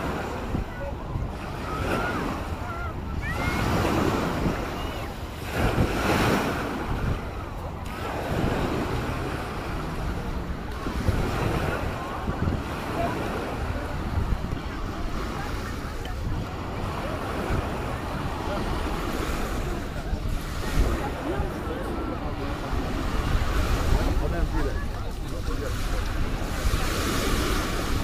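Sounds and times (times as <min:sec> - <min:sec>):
small waves washing onto sand: 0:00.0 - 0:28.0
voices of many people: 0:00.0 - 0:28.0
wind buffeting microphone: 0:00.0 - 0:28.0.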